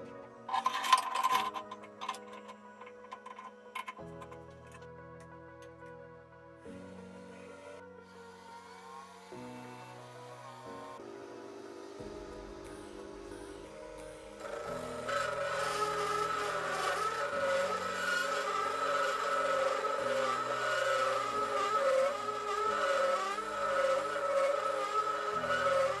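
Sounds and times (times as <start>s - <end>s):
lathe parting tool cutting steel pipe: 0.5s - 4.8s, 6.7s - 26.0s.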